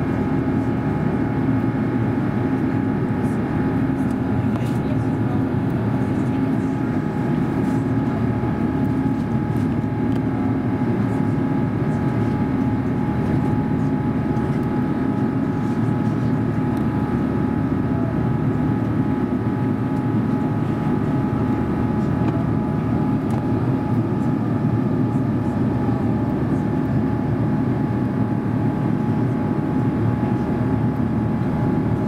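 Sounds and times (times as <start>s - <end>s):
steady engine hum: 0.0s - 32.0s.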